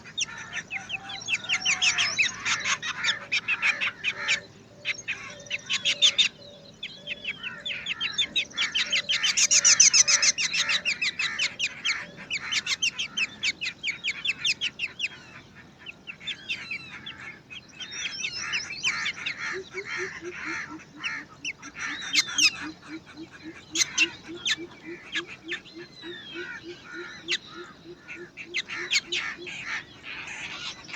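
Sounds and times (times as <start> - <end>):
low repeated bird call: 0.0 - 30.9
nestlings begging with high chirps: 0.0 - 30.9.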